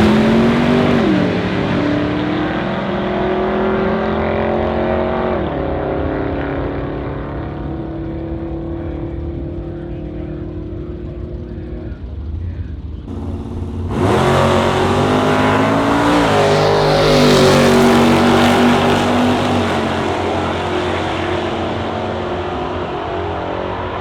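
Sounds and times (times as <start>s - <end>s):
drag car engine accelerating: 0.0s - 24.0s.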